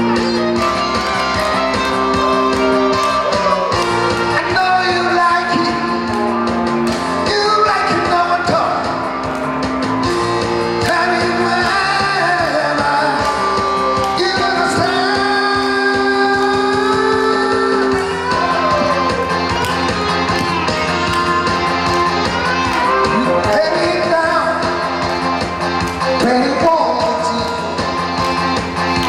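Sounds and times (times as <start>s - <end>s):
amplified instrumental accompaniment: 0.0s - 29.0s
man singing pop song: 2.1s - 9.2s, 10.6s - 29.0s.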